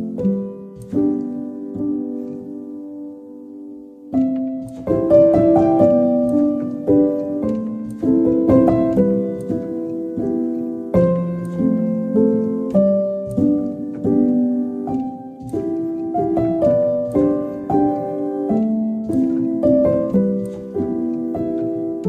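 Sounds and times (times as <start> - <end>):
soft piano music: 0.0 - 22.0.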